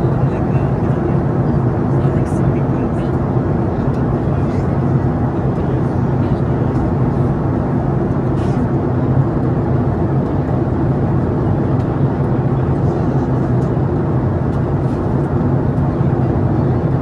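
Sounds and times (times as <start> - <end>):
airliner cabin air rush: 0.0 - 17.0
low cabin hum: 0.0 - 17.0.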